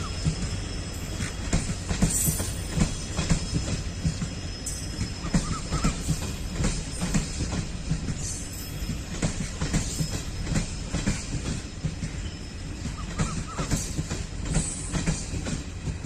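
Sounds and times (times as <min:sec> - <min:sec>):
train coaches rumbling past: 0:00.0 - 0:16.0
wheels clacking over rail joints: 0:00.0 - 0:16.0.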